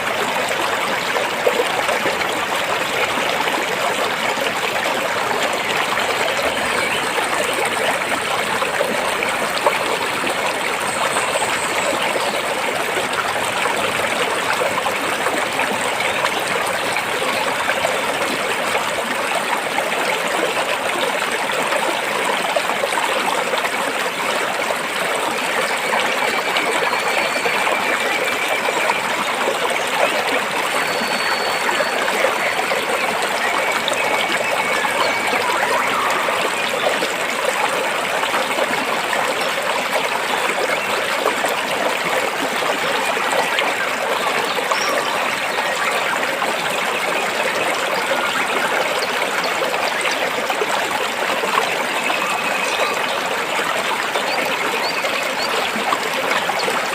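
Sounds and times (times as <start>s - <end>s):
stream water flowing between rocks: 0.0s - 56.9s.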